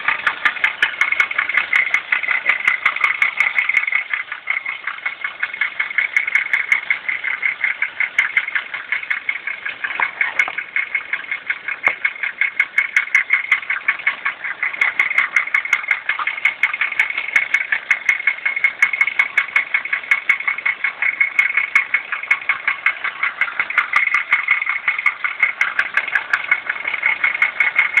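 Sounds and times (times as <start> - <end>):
car engine running: 0.0 - 28.0
rapid regular engine knock: 0.0 - 28.0.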